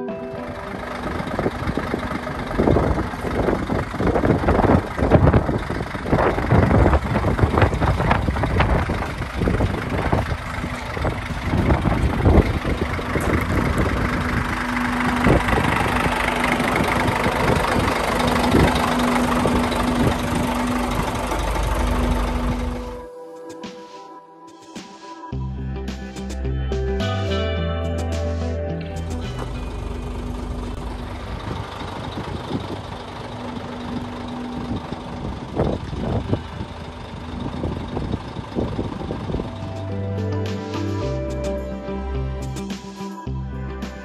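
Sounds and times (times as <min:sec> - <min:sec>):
diesel engine idling: 0:00.0 - 0:23.1, 0:26.5 - 0:44.0.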